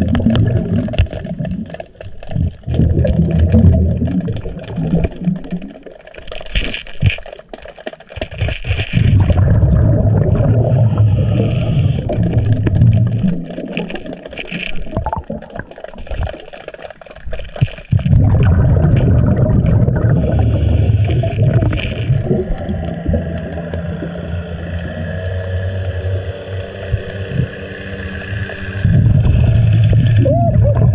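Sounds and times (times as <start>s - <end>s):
low underwater rumble: 0.0s - 5.9s, 8.8s - 16.4s, 17.3s - 30.9s
regulator bubbles gurgling: 0.0s - 30.9s.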